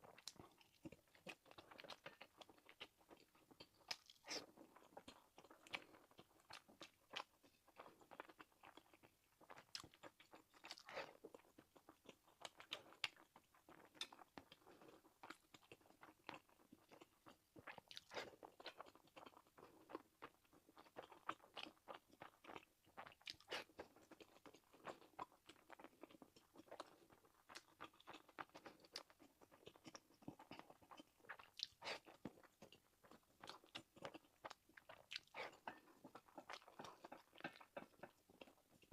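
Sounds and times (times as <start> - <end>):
chewing and eating: 0.0 - 38.9.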